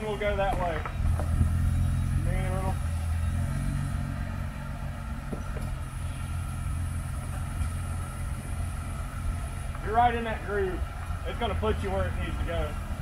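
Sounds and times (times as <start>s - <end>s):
truck engine running low: 0.0s - 13.0s.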